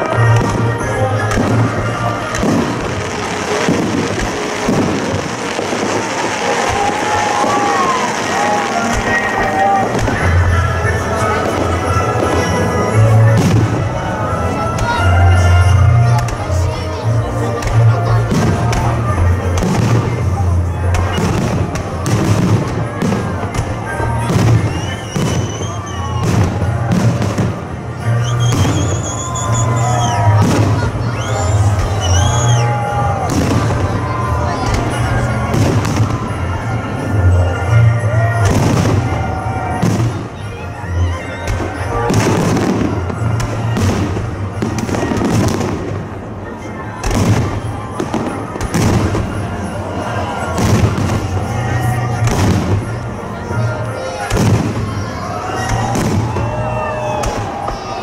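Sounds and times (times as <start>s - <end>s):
fireworks bangs: 0.0s - 58.0s
loud music: 0.0s - 58.0s.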